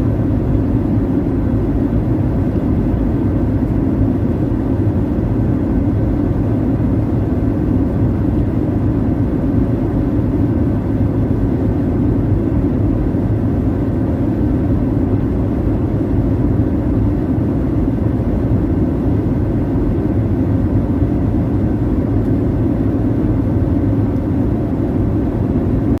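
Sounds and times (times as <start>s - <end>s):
airliner cabin engine rush: 0.0s - 26.0s.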